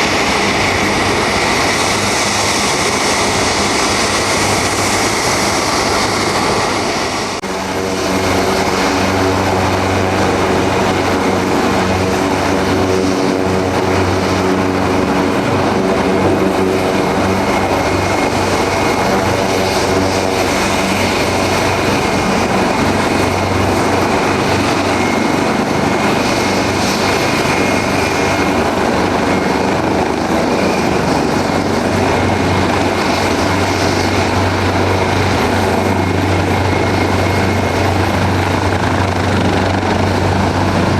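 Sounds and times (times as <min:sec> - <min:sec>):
helicopter turbine whine: 0:00.0 - 0:40.9.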